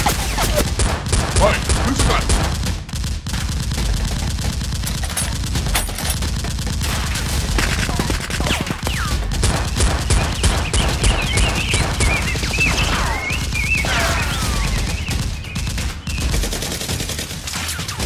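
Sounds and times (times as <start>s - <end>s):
rapid gunfire: 0.0s - 18.0s.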